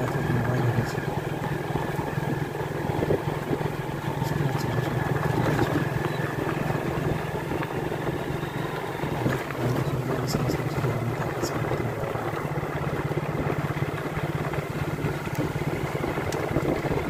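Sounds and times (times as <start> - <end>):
motorcycle engine humming: 0.0 - 17.0.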